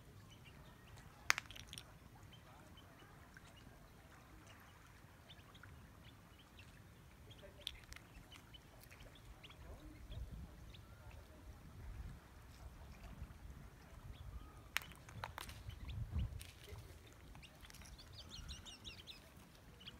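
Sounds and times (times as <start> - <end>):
low steady shoreline rumble: 0.0 - 19.9.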